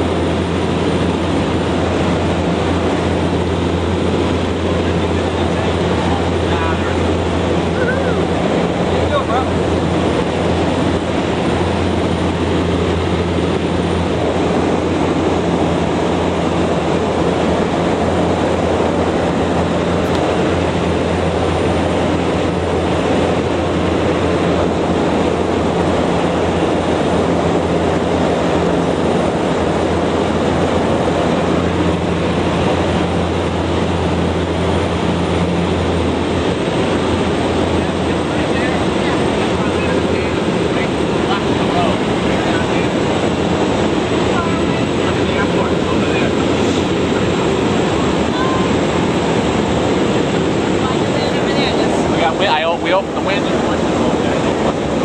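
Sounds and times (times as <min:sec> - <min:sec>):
loud rush of air: 0:00.0 - 0:55.0
turboprop engine hum: 0:00.0 - 0:55.0.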